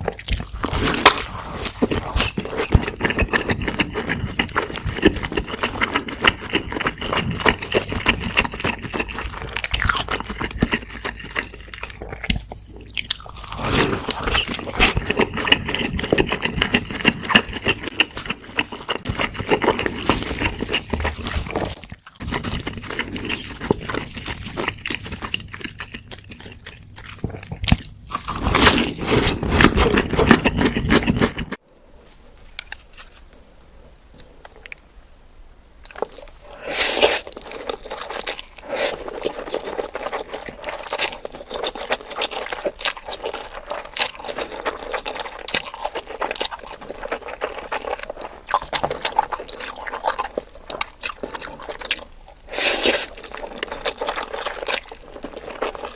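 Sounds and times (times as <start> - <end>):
crunchy bites and chewing: 0.0 - 31.6, 35.8 - 55.9.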